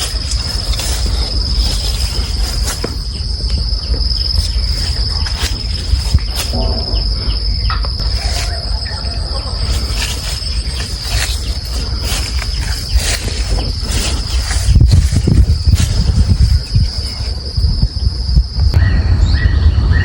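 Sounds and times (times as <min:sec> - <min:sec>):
insects trilling: 0:00.0 - 0:20.0
loud low rumble: 0:00.0 - 0:20.0.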